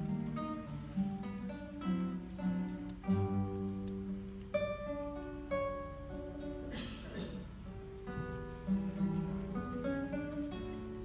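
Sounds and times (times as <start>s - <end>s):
fingerstyle classical guitar: 0.0s - 11.0s.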